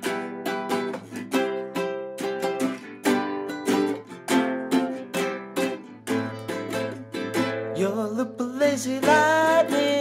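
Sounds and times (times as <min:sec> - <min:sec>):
ukulele strumming: 0:00.0 - 0:10.0.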